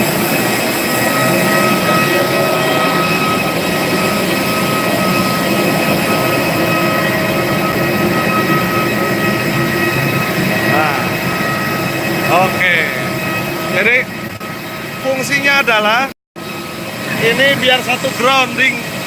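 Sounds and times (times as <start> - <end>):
aircraft turbine running: 0.0 - 19.0
high steady whine: 0.0 - 19.0.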